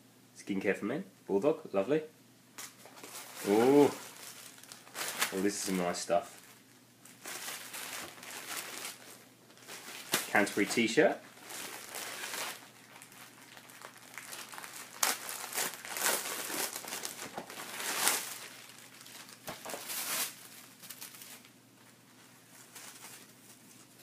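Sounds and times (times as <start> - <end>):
packaging crinkling and rustling: 2.6 - 24.0.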